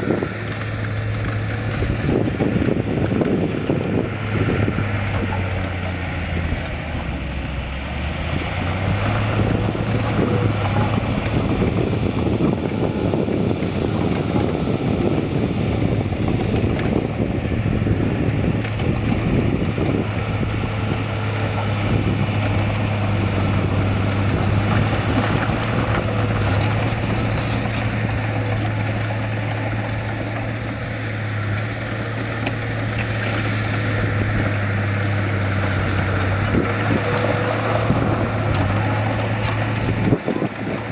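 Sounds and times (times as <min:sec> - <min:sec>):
heavy diesel engine droning: 0:00.0 - 0:40.9.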